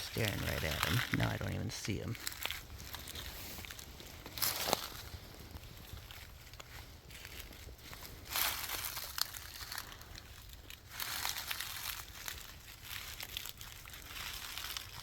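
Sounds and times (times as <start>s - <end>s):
footsteps crunching through dry leaves: 0.0s - 15.0s
twigs crackling: 0.0s - 15.0s.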